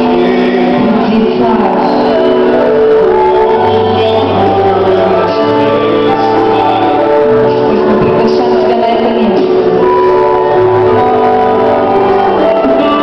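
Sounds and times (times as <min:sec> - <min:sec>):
held keyboard chords: 0:00.0 - 0:13.0
people singing: 0:00.0 - 0:13.0.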